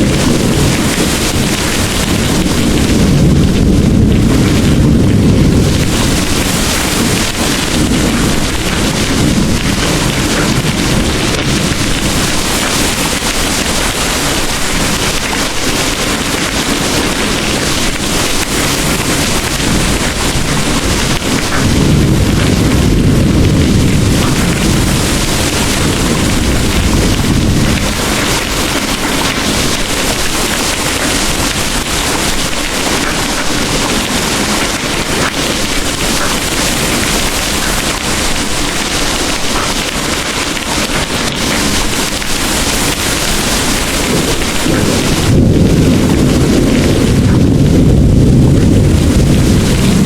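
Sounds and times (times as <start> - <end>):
distant thunder rolling: 0.0 - 50.0
heavy rain pouring: 0.0 - 50.0.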